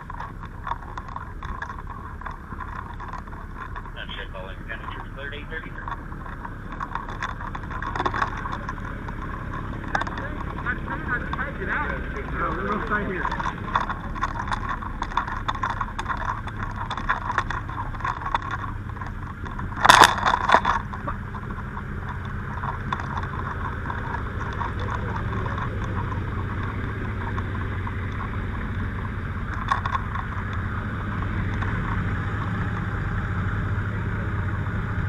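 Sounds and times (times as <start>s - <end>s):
faint clicks: 0.0s - 32.9s
vehicle engine idling: 0.0s - 35.0s.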